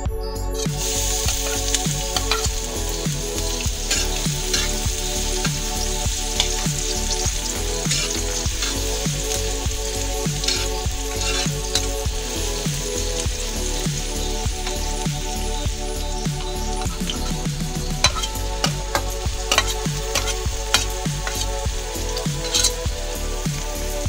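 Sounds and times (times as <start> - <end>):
background music with beat: 0.0 - 24.0
metal spatula scraping wok: 0.6 - 24.0
onion sizzling in hot oil: 0.6 - 24.0.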